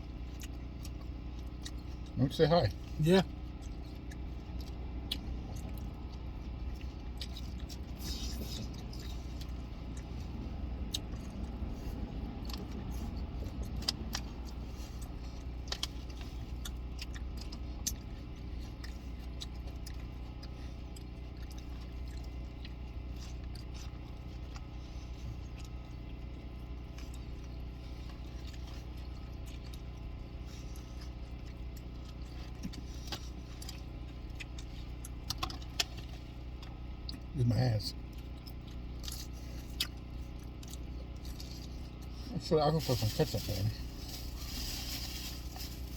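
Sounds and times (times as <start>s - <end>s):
car interior hum: 0.0s - 45.9s.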